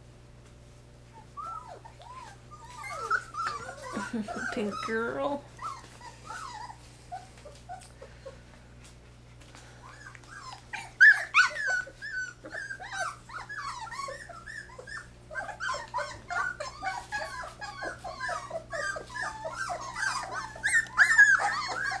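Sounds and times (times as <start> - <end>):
puppies yipping and whimpering: 1.1 - 8.5, 9.6 - 22.0.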